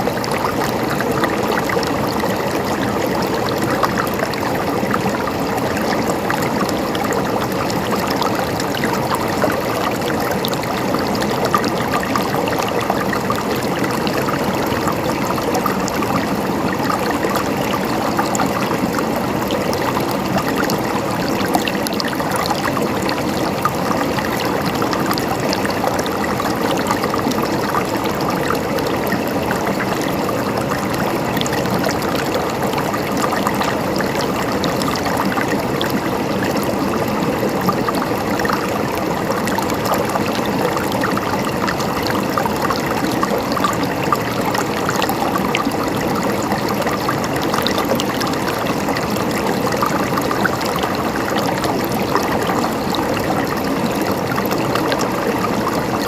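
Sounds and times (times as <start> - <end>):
river burbling over stones: 0.0 - 56.0.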